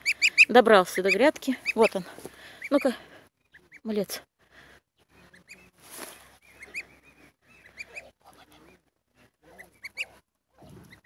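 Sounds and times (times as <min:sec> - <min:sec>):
geese calling: 0:00.0 - 0:04.0, 0:05.0 - 0:11.0
low murmuring goose calls: 0:00.0 - 0:04.0, 0:05.0 - 0:11.0.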